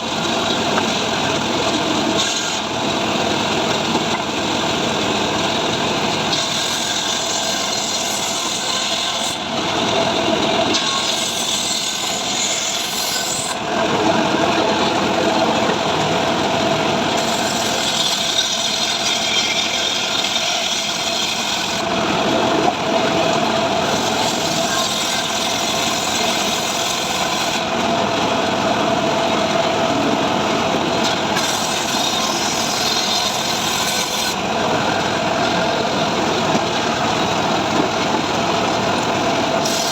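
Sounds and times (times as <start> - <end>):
engine saw cutting wood: 0.0 - 39.9.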